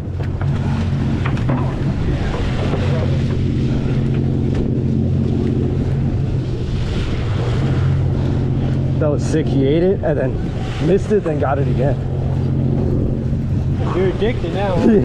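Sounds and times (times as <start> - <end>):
boat engine drone: 0.0 - 15.0
sea noise: 0.0 - 15.0
wind on microphone: 0.0 - 15.0.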